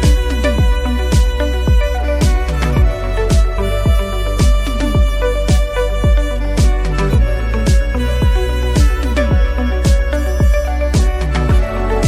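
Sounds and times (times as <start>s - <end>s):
electronic kick drum: 0.0s - 12.0s.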